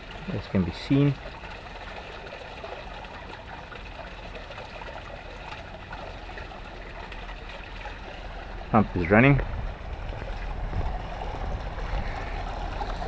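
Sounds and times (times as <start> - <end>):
water pouring from pump outlet: 0.0 - 13.0.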